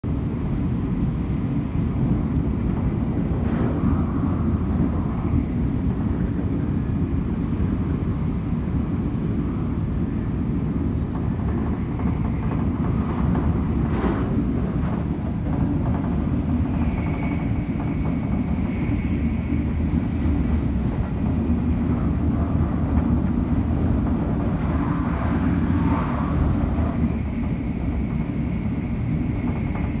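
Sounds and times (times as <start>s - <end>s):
train ride rumble: 0.0s - 30.0s.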